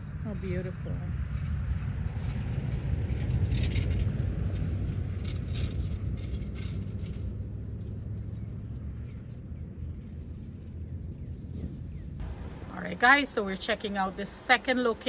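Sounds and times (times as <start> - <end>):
car road rumble from cabin: 0.0 - 14.1.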